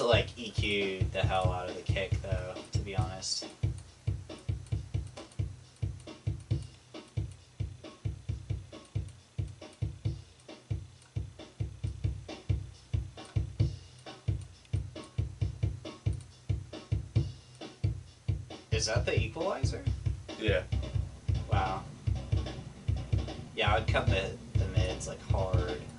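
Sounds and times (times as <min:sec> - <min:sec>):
kick drum: 0:00.6 - 0:25.7.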